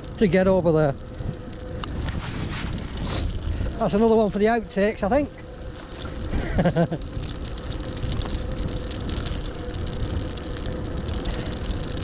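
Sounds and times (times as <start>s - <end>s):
tyre noise on track: 0.0s - 12.0s
wind rumbling on microphone: 0.0s - 12.0s.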